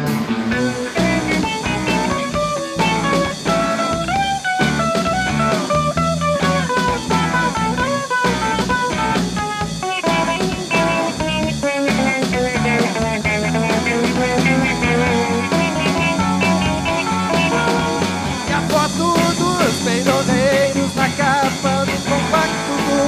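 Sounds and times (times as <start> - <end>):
electric bass: 0.0 - 23.0
electric guitars: 0.0 - 23.0
steady drum beat: 0.0 - 23.0.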